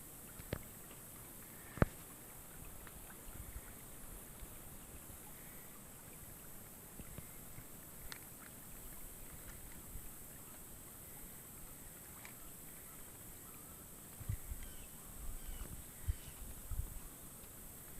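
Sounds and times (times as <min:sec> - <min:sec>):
faint hiss of water: 0:00.0 - 0:17.9
faint ticks: 0:00.2 - 0:05.8, 0:06.6 - 0:11.4, 0:12.1 - 0:12.5, 0:13.4 - 0:14.9, 0:15.6 - 0:17.9.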